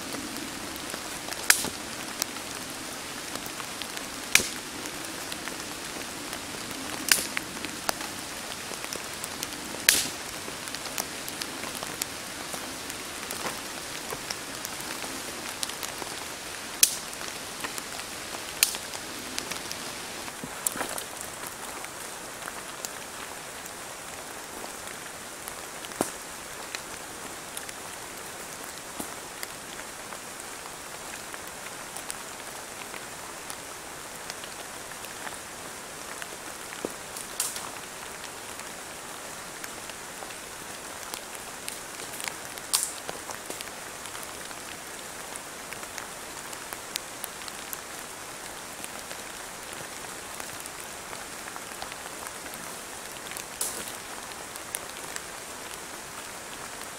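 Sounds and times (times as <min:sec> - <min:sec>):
rain falling on leaves: 0:00.0 - 0:56.9.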